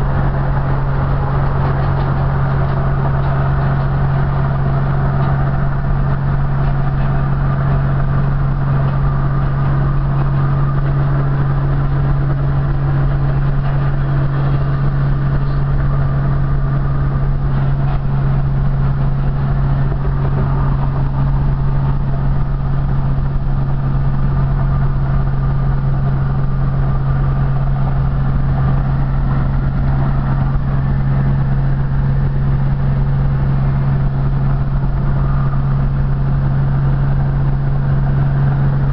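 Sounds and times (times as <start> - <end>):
pickup engine hum: 0.0 - 38.9
road rumble: 0.0 - 38.9.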